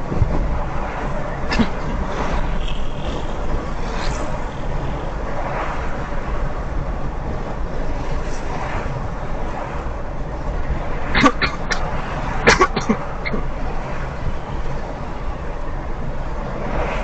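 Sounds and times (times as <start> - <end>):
car road noise at highway speed: 0.0 - 17.0
passing traffic: 0.0 - 17.0.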